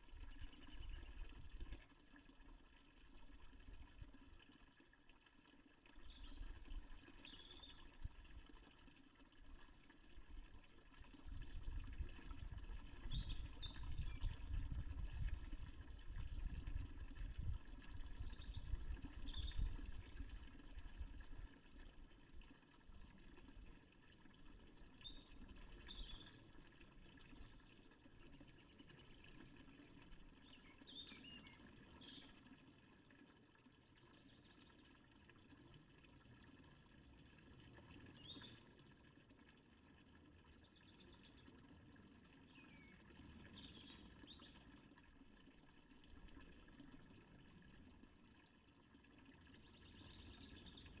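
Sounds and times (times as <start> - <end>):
fountain water running: 0.0 - 51.0.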